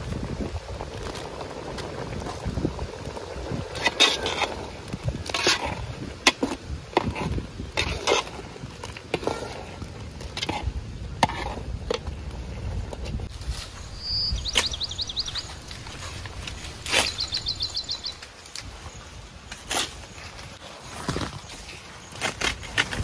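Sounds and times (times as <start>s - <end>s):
gravy boiling bubbles: 0.0s - 18.6s.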